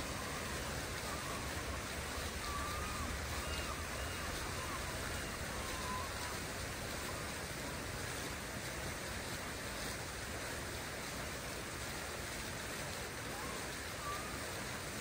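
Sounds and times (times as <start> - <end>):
water fountain splashing: 0.0 - 15.0.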